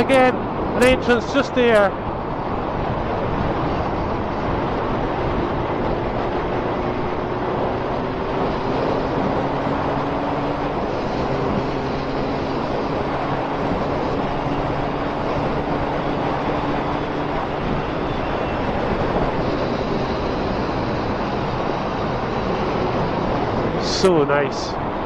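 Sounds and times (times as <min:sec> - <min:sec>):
loud wind rush on microphone: 0:00.0 - 0:25.0
motorcycle engine pulling steadily: 0:01.9 - 0:25.0.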